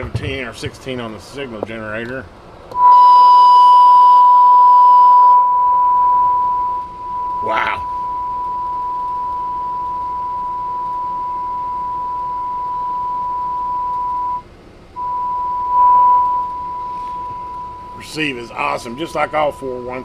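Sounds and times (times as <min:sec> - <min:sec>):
steady test tone from radio speaker: 0:02.7 - 0:20.0.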